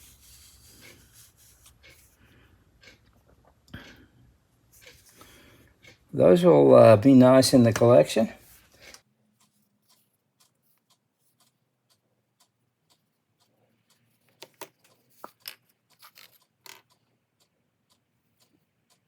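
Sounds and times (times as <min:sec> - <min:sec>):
faint regular ticking: 0:00.0 - 0:19.0.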